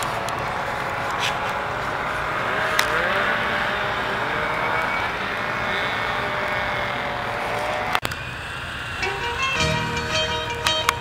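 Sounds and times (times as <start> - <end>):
distant snowmobile engines droning: 0.0 - 11.0.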